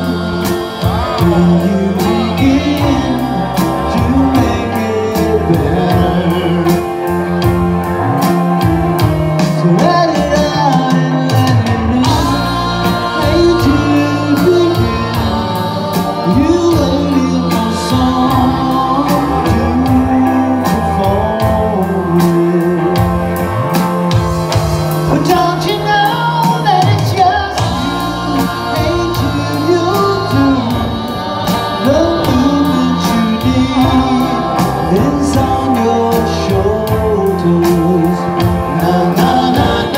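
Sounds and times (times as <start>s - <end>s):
person singing: 0.0s - 24.0s, 24.9s - 39.9s
live rock band playing: 0.0s - 39.9s.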